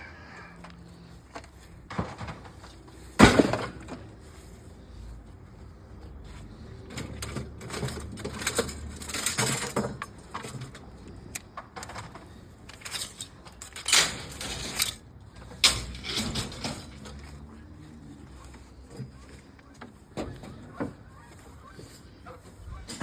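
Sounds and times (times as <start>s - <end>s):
scrap metal clanking and rattling: 0.8s - 4.6s, 6.6s - 23.0s.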